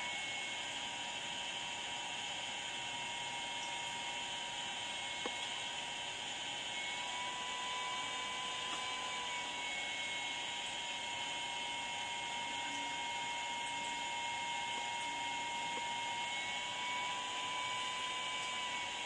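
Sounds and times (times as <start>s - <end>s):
machine whir and hiss: 0.0s - 19.0s.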